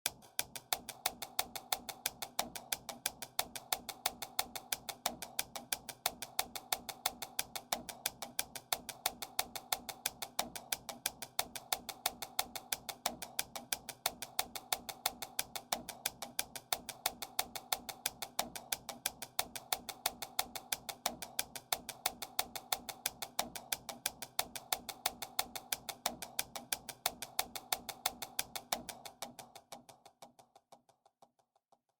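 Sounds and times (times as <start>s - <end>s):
wood block clicking beat: 0.1s - 31.6s.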